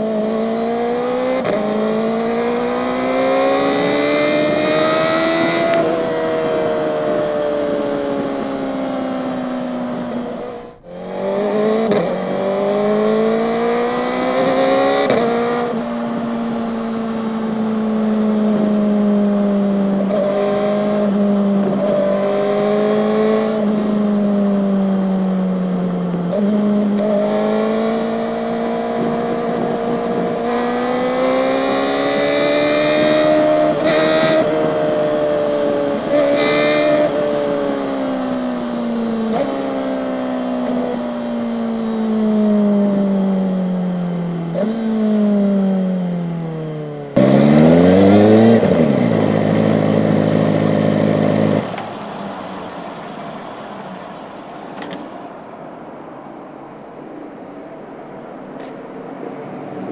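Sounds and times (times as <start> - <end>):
motorcycle engine while riding: 0.0 - 56.2.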